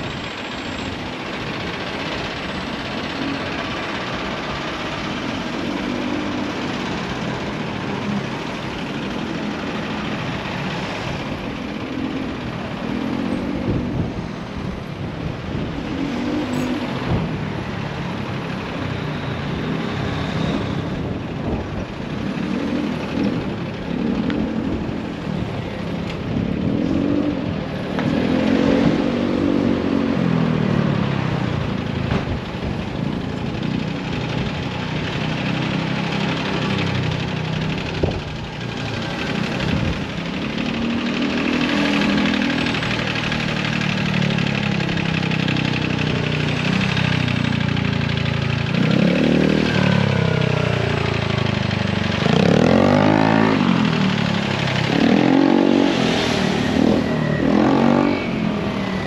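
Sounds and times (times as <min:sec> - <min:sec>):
vehicle engines speeding up and slowing: 0:00.0 - 0:59.0.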